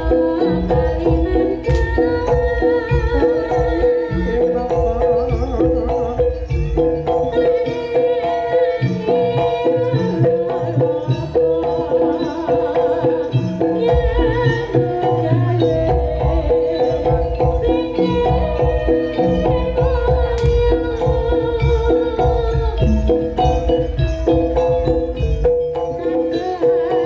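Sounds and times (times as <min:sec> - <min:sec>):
driving drumming: 0:00.0 - 0:27.0.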